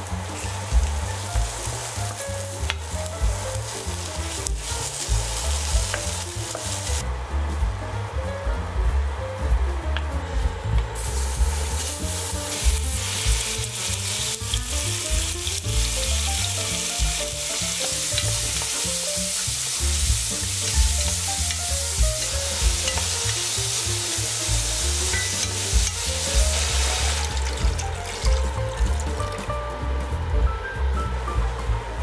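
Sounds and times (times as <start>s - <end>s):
meat sizzling in oil: 0.0s - 7.0s, 11.0s - 29.6s.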